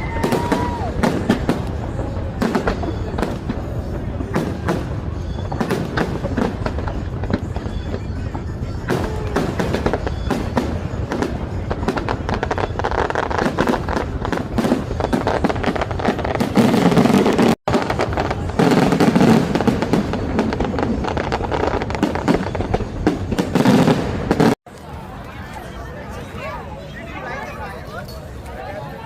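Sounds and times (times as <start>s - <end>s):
fireworks bangs and crackles: 0.0s - 26.5s.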